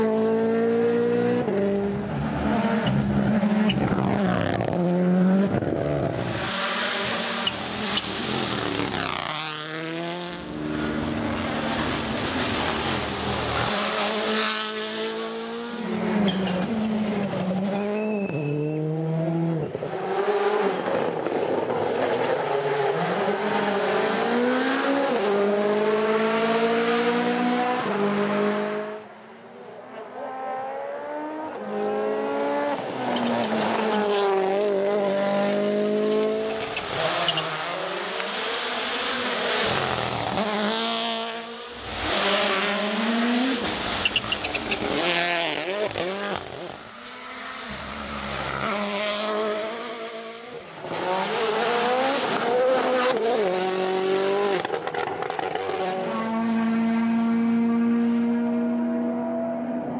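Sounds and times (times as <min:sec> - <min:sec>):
rally cars passing at full throttle: 0:00.0 - 0:59.9.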